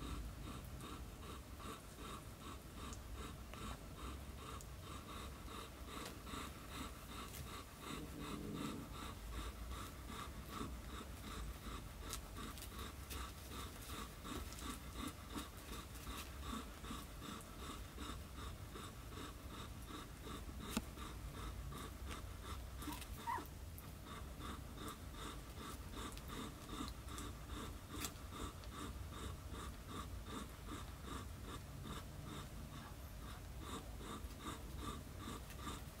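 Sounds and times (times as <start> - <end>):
kittens suckling: 0.0 - 36.0.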